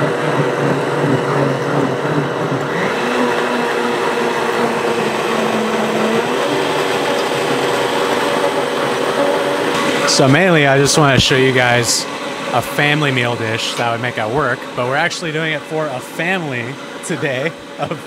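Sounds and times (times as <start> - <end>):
blender motor whirring: 0.0 - 17.9.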